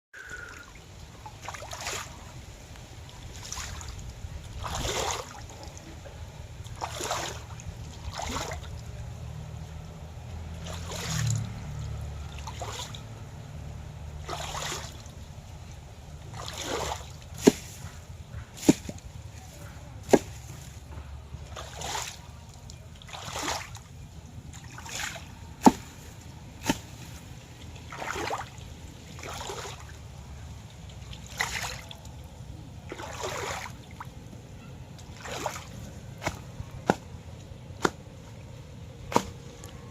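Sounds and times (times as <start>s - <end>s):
steady low hum: 0.2s - 39.9s
water splashing and trickling: 0.2s - 39.9s.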